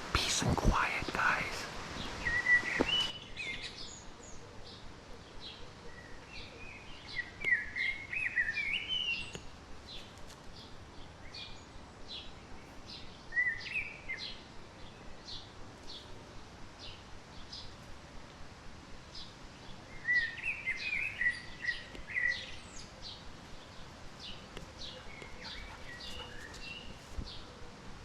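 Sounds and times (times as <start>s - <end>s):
faint steady hiss: 0.0s - 28.0s
birds chirping and warbling: 0.2s - 16.1s, 19.2s - 27.8s.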